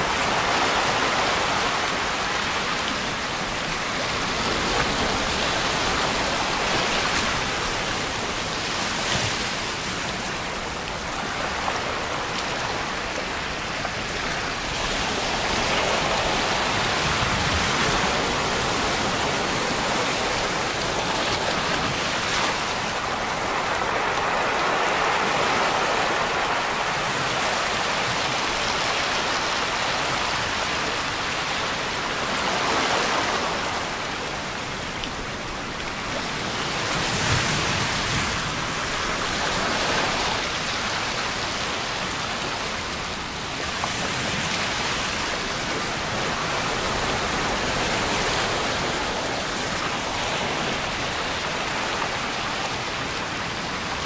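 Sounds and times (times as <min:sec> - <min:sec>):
small waves washing on beach: 0:00.0 - 0:54.0.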